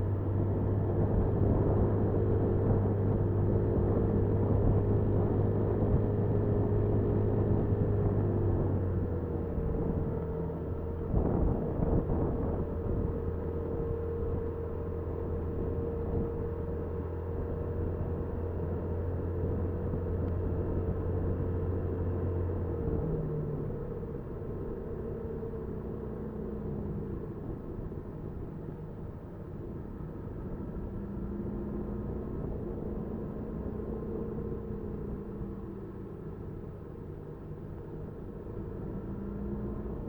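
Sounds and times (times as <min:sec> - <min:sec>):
road and wind noise: 0:00.0 - 0:40.0.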